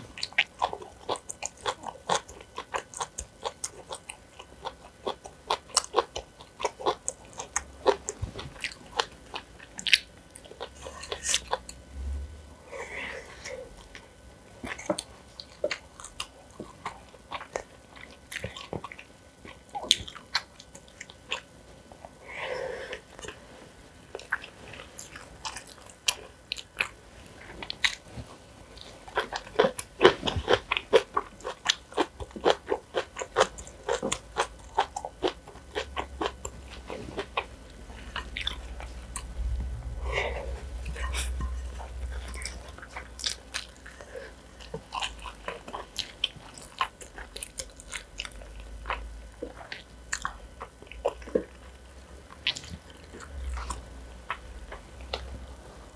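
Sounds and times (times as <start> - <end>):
chewing and crunching food: 0.0 - 11.9, 12.7 - 55.9.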